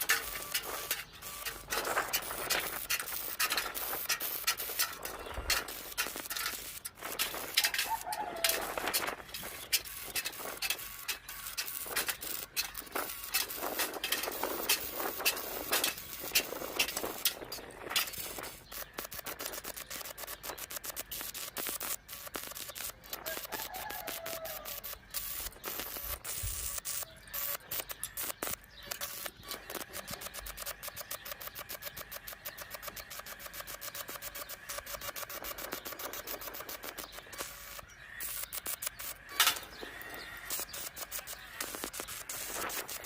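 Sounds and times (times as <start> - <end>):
arc welding crackle: 0.0 - 43.0.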